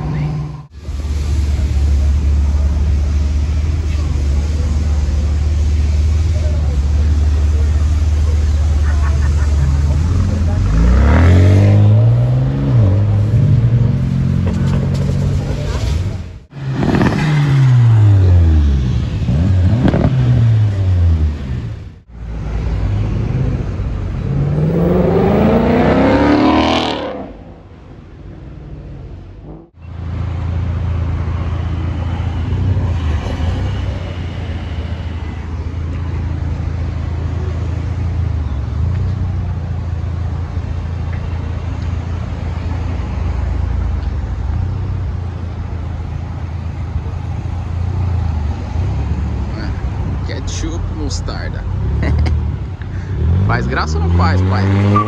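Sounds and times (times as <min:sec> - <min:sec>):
cars idling and rolling past: 0:00.0 - 0:55.0
sports car engines revving: 0:00.0 - 0:55.0.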